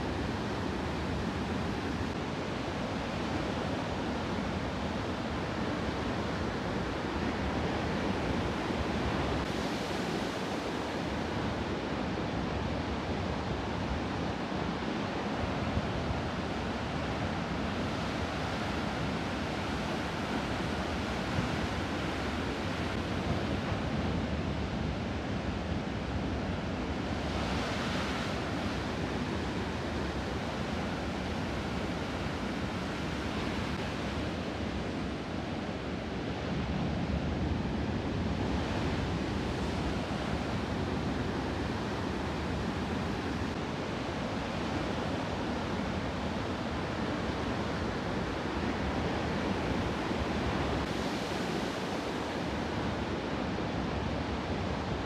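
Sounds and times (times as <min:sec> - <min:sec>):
ocean waves washing: 0:00.0 - 0:55.0.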